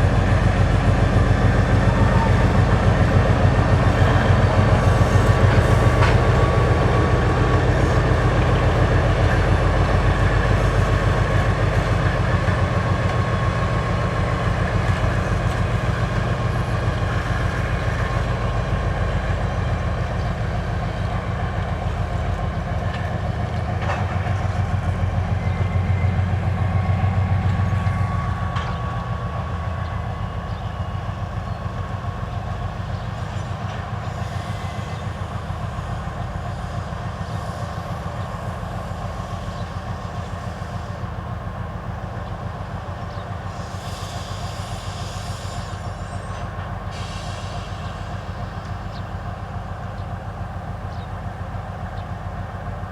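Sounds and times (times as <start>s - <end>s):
diesel locomotive engine running: 0.0s - 52.9s.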